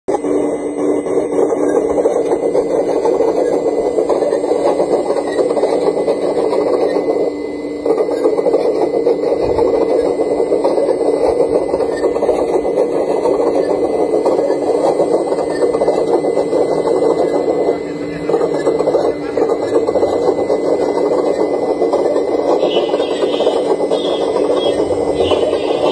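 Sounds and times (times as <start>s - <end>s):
model excavator mechanical hum: 0.1s - 25.9s.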